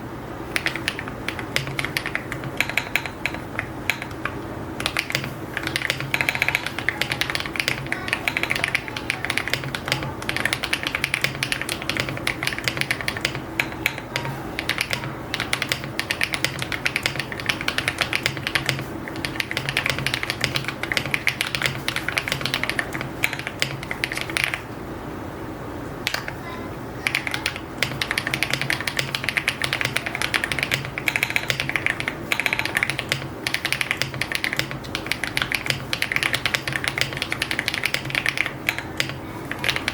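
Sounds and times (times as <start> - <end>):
fast typing on mechanical keyboard: 0.5 - 24.6, 27.0 - 39.9.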